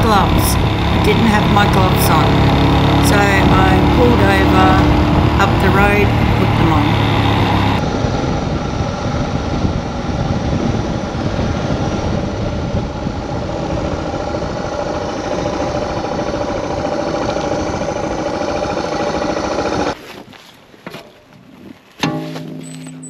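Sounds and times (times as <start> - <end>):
wind rushing: 0.0 - 19.8
motorcycle engine running: 0.0 - 20.0.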